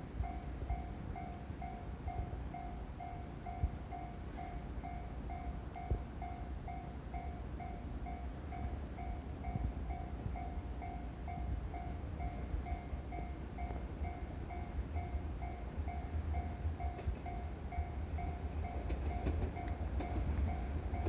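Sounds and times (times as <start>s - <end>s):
level-crossing warning bell: 0.0s - 21.0s
low train rumble: 0.0s - 21.0s.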